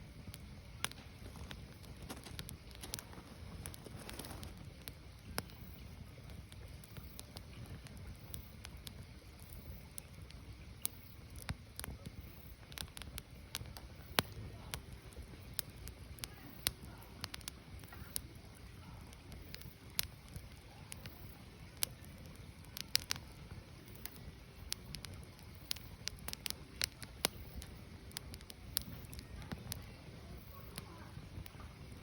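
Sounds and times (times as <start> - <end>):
firewood crackling and popping: 0.0 - 32.0
low rumble of fire: 0.0 - 32.0.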